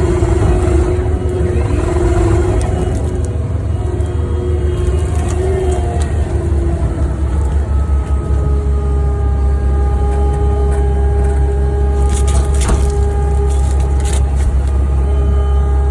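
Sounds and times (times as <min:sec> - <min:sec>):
skid steer engine rumbling: 0:00.0 - 0:15.9.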